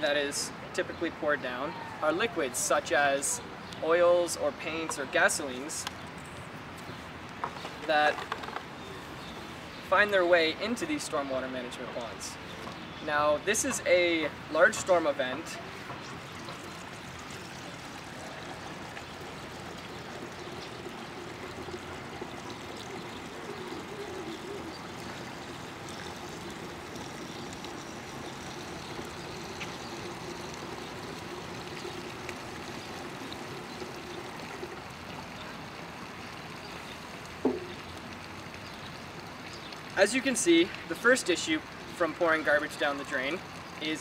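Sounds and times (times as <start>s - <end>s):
water trickling and splashing: 0.0s - 44.0s.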